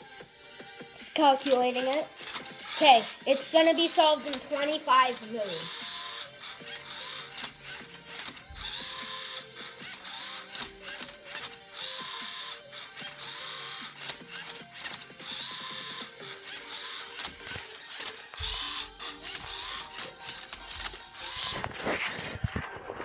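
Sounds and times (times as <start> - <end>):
mechanism clicking: 1.0 - 21.7
robot motors and gears whirring: 1.3 - 21.7.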